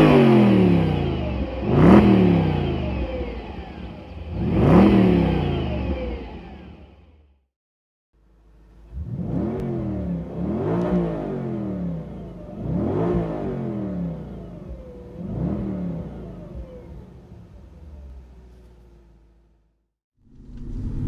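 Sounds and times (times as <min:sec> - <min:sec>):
car engine revving: 0:00.0 - 0:07.4, 0:08.2 - 0:21.0.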